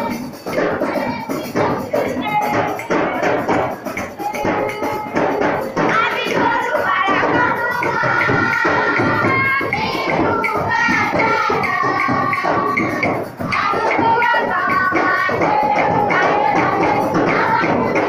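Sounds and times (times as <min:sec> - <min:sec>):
fast percussion beat: 0:00.0 - 0:18.0.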